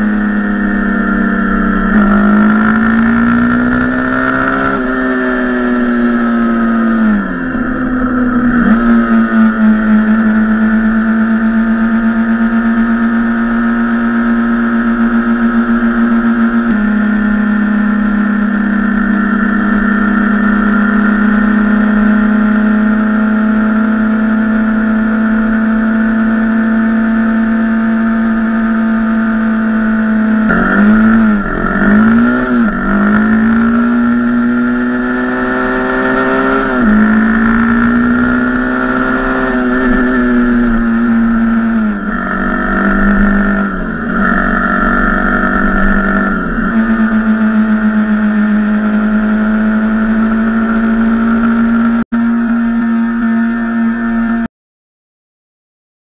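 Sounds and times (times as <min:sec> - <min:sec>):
dirt bike engine revving: 0:00.0 - 0:54.5.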